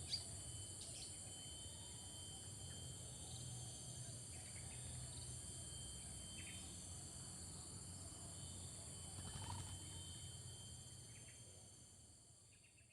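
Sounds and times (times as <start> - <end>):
faint bird chirps: 0.0 - 6.8, 8.0 - 11.6, 12.5 - 12.9
insects droning: 0.0 - 12.9.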